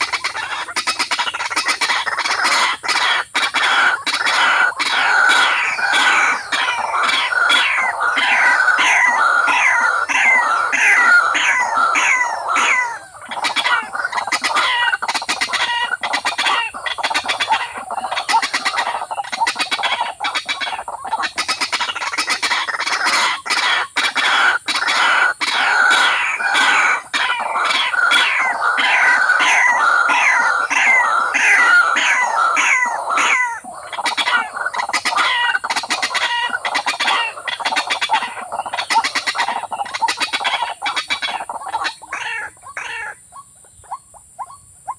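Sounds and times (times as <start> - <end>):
bird clucking calls: 0.0 - 44.9.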